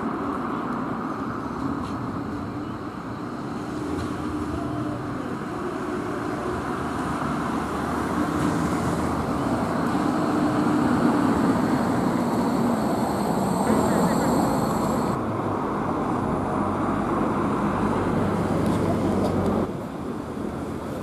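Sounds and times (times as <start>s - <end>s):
tram running with low hum: 0.0s - 21.0s.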